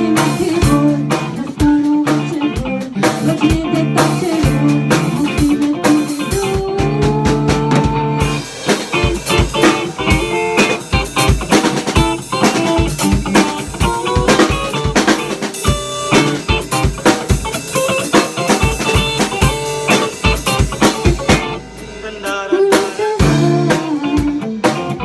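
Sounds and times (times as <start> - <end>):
band playing upbeat pop: 0.0 - 25.0
busy drum kit: 0.0 - 25.0
guitar: 0.0 - 25.0.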